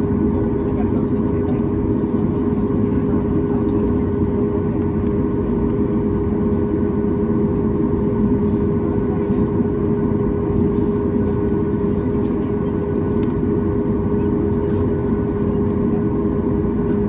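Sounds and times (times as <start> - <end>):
jet engines heard from cabin: 0.0 - 17.0.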